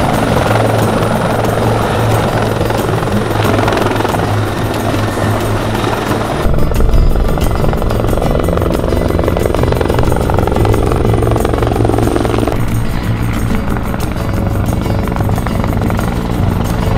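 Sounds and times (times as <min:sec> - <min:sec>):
background music: 0:00.0 - 0:16.9
helicopter rotor and turbine: 0:00.0 - 0:16.9.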